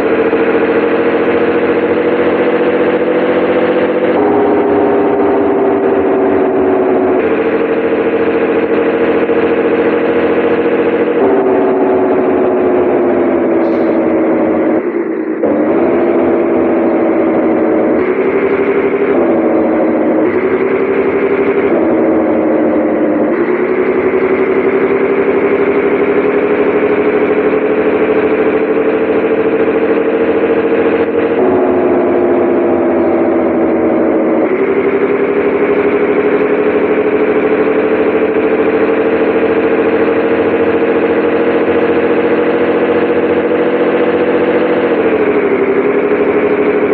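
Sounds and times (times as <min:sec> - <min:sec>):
diesel truck engine changing gears: 0:00.0 - 0:46.9.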